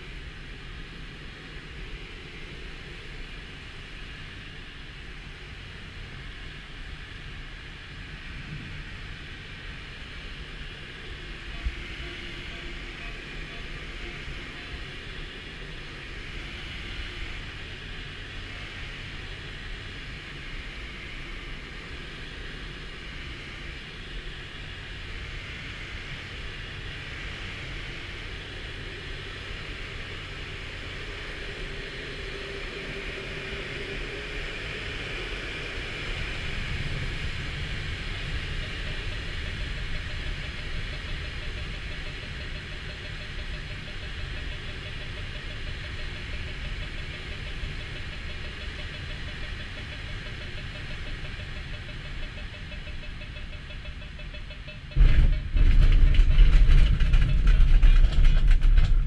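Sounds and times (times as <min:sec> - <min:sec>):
airflow rushing around glider canopy: 0:00.0 - 0:59.0.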